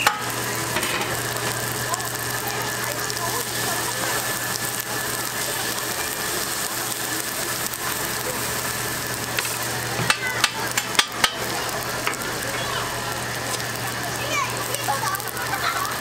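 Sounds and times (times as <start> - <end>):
pancake batter sizzling on griddle: 0.0 - 16.0.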